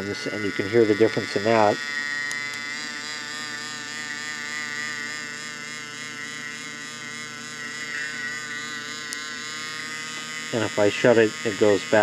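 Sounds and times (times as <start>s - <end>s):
small motor whining: 0.0s - 12.0s.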